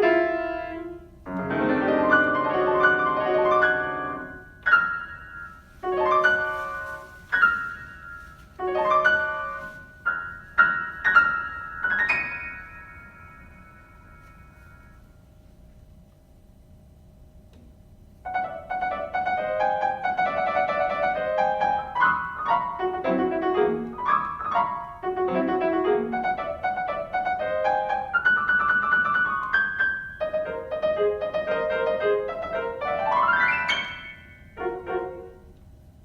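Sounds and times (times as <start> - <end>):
piano playing lively melody: 0.0 - 14.5, 18.3 - 35.6.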